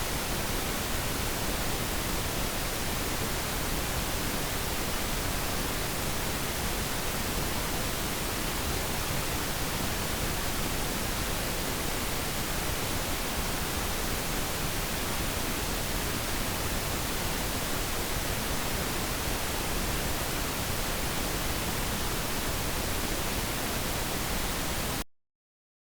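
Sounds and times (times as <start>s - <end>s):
pink noise hiss: 0.0s - 25.0s.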